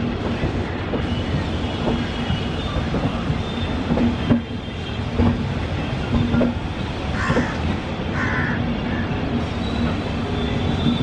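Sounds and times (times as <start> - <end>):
train coach rumbling on track: 0.0 - 11.0.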